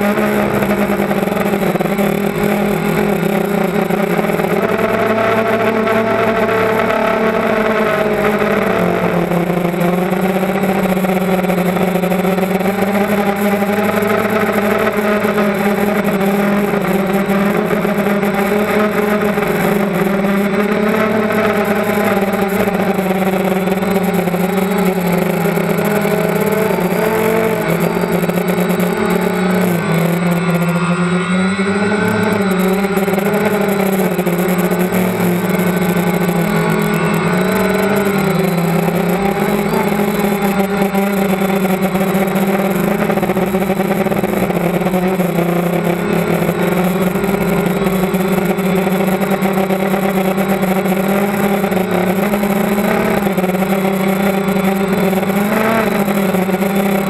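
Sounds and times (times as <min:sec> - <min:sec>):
steady rush of noise: 0:00.0 - 0:57.0
vehicle engine running: 0:00.0 - 0:57.0.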